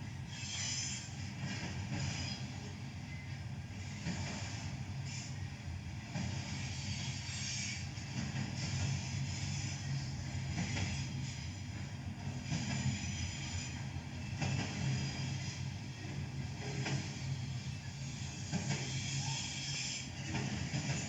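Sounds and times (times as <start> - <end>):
diesel locomotive engines humming: 0.0 - 21.0.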